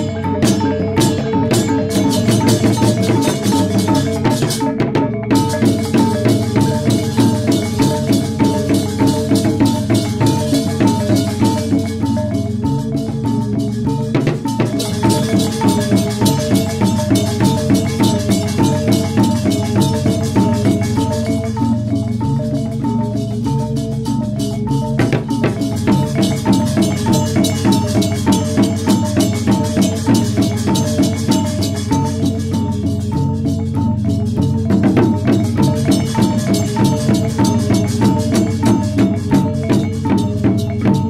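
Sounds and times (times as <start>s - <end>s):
drums: 0.0s - 41.0s
metallophones playing fast figures: 0.0s - 41.0s.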